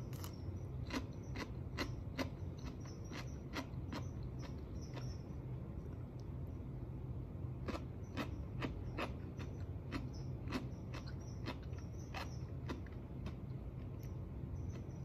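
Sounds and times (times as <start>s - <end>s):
crunchy food chewing: 0.0s - 5.3s, 7.6s - 15.0s
low room hum: 0.0s - 15.0s.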